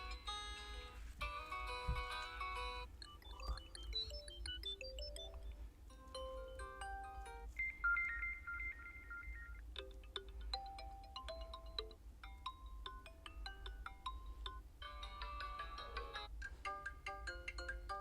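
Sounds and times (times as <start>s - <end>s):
phone ringtone tune: 0.0s - 18.0s.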